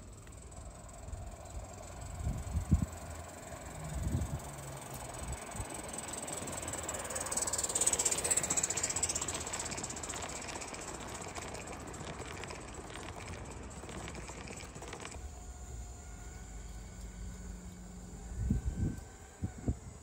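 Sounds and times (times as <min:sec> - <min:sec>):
low hum: 0:00.0 - 0:20.0
steam locomotive hissing and chuffing: 0:00.0 - 0:20.0.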